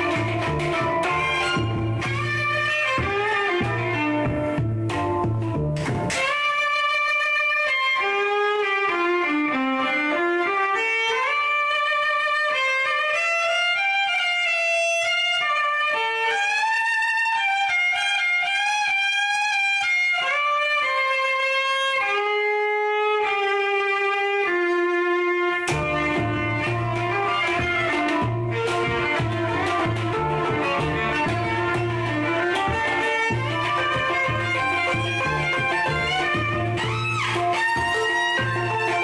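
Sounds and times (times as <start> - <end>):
slow violin melody: 0.0 - 39.0.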